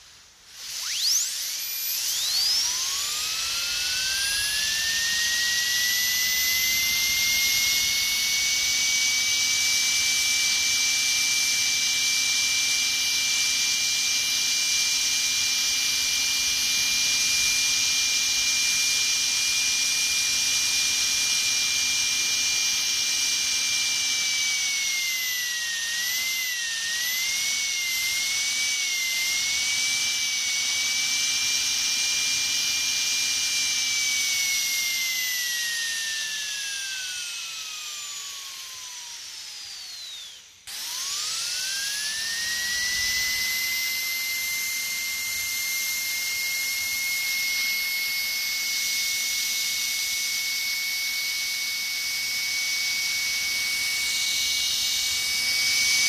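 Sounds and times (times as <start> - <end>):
dentist's drill whining: 0.0 - 56.0.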